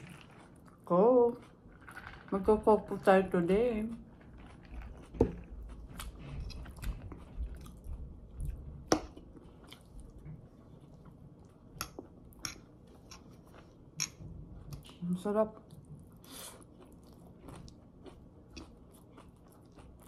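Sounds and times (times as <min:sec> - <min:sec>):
chewing noodles: 0:00.0 - 0:20.0.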